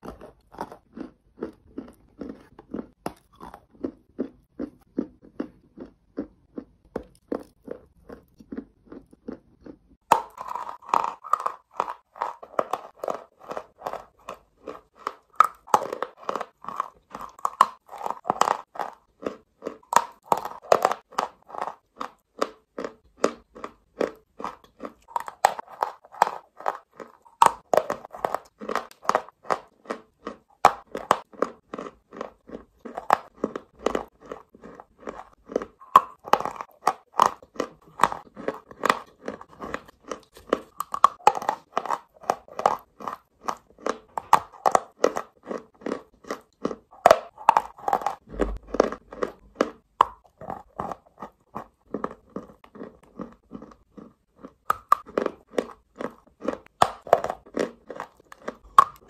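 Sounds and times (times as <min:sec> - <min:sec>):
person chewing chalk crunchily: 0:00.0 - 0:59.0.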